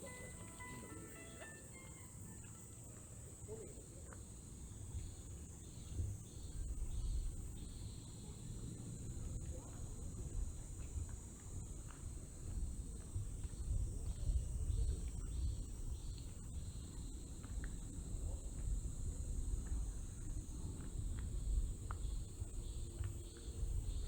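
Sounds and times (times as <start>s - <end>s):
insects chirring: 0.0s - 24.0s
pulsing insect chirp: 0.0s - 24.0s.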